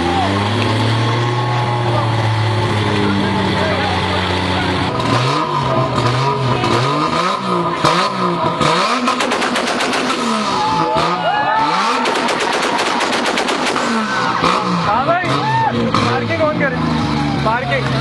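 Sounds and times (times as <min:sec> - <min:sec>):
car engine revving: 0:00.0 - 0:18.0
exhaust pops and crackles: 0:00.1 - 0:16.8.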